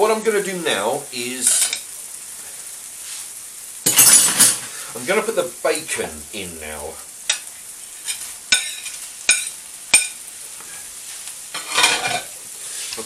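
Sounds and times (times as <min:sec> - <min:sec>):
bacon sizzling in frying pan: 0:00.0 - 0:13.0.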